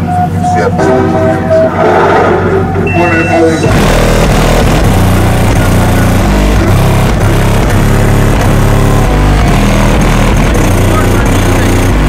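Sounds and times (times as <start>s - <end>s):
loud bass-heavy music: 0.0s - 12.0s.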